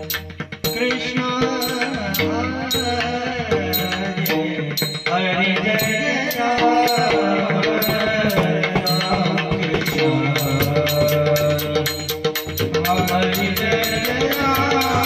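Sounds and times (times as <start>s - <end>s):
hand drum steady rhythm: 0.0s - 15.0s.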